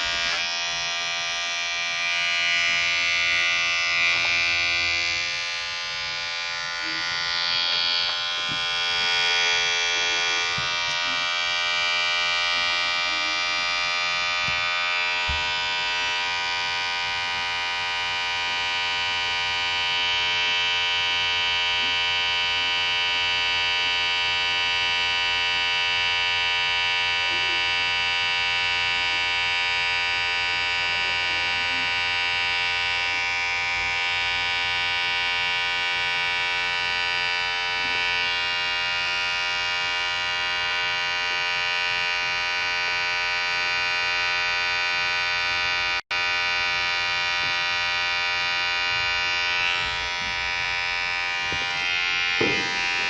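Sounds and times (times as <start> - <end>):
electric hair clipper buzzing: 0.0 - 53.0.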